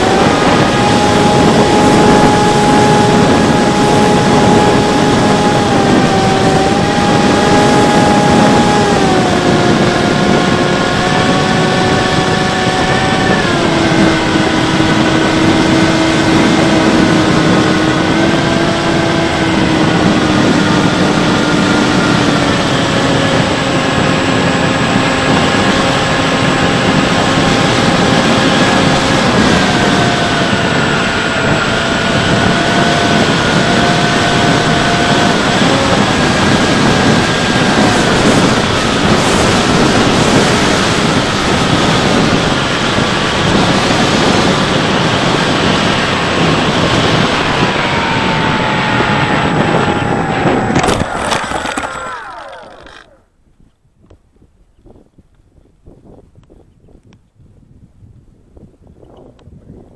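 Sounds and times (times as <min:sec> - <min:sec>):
rush of air: 0:00.0 - 0:53.2
electric motor and propeller whine: 0:00.0 - 0:53.4.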